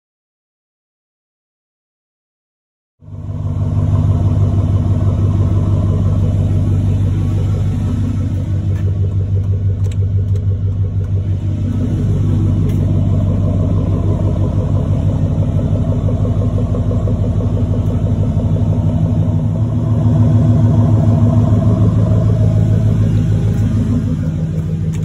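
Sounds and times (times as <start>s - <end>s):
pickup engine idling: 3.0s - 25.0s.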